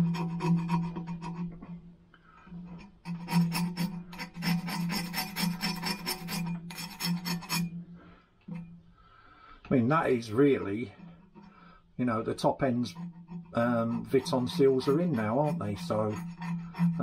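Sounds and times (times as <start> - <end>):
hand scraping sealant off pipe: 0.0 - 8.7, 10.6 - 17.0.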